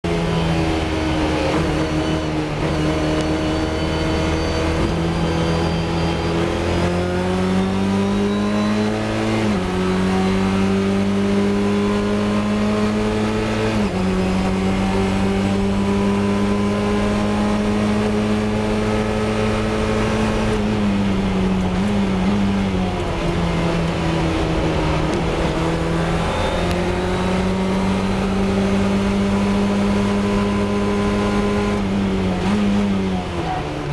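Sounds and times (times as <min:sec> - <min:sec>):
racing car engine under load: 0:00.0 - 0:33.9.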